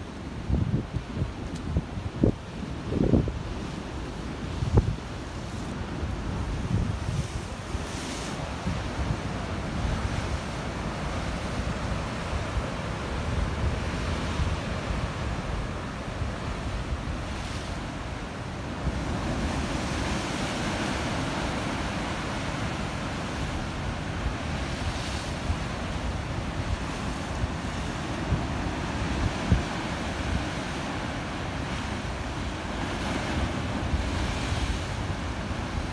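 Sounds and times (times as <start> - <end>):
wind buffeting microphone: 0.3 - 35.9.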